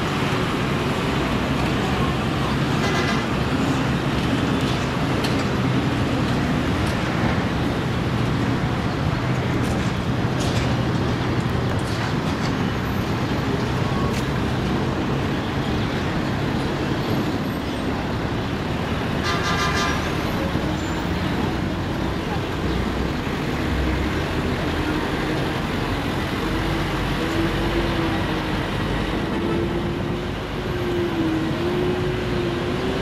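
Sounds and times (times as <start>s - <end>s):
engines and vehicle traffic: 0.0s - 33.0s.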